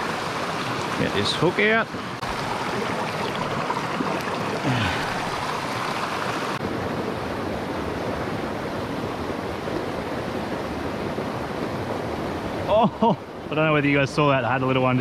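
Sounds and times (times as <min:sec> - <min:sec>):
stream burbling over rocks: 0:00.0 - 0:15.0.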